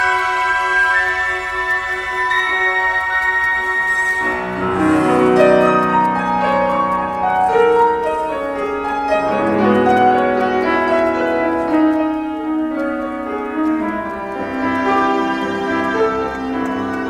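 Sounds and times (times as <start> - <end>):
slow piano piece: 0.0 - 17.0.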